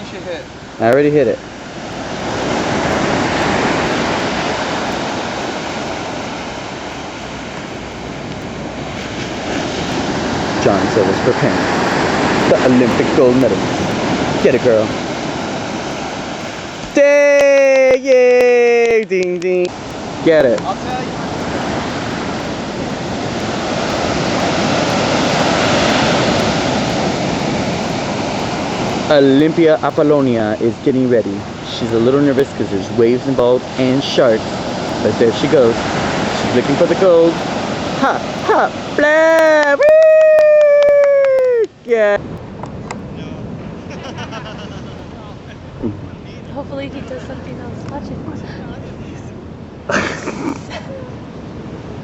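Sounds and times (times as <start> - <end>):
ocean surf washing on beach: 0.0 - 52.0
waves breaking: 0.0 - 52.0.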